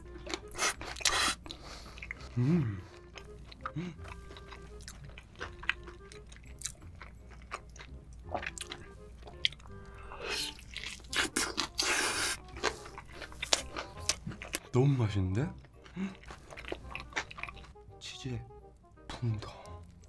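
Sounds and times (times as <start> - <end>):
faint background music: 0.0 - 20.0
crunchy chewing: 0.1 - 14.7, 15.7 - 17.7.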